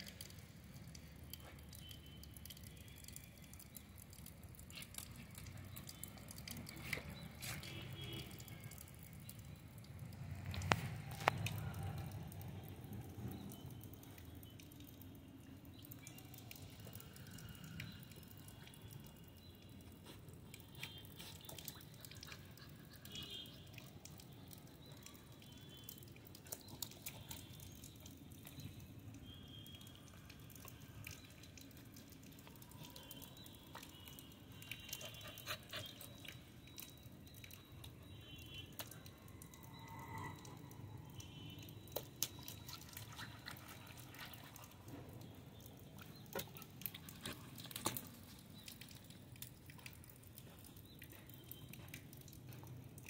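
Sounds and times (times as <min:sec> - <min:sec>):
puppy splashing in shallow water: 0:00.0 - 0:15.1, 0:17.7 - 0:39.3, 0:41.2 - 0:53.0.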